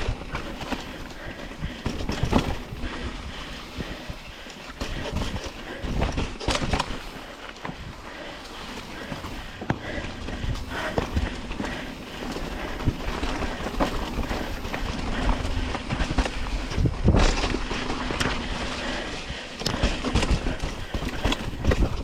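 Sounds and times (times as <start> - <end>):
bike rattling over rocks: 0.0 - 22.0.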